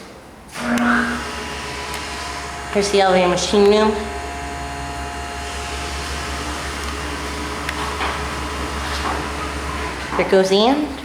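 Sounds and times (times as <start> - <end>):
machine room equipment humming: 0.5 - 11.0.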